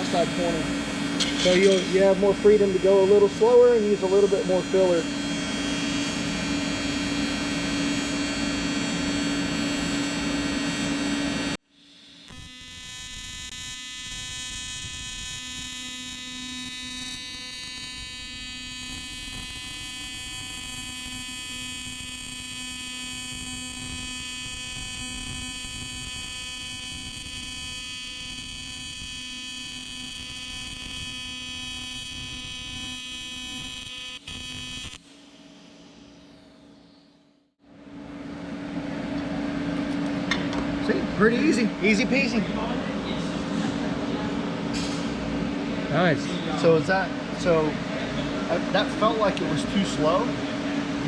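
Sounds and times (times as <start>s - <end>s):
welding arc buzzing: 0.0s - 51.0s.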